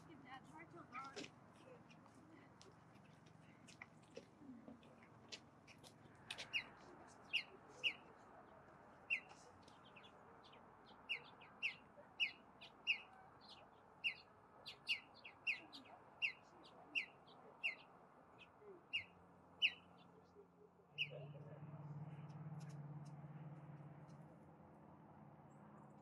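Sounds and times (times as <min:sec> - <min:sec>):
birds calling: 0:01.0 - 0:23.4.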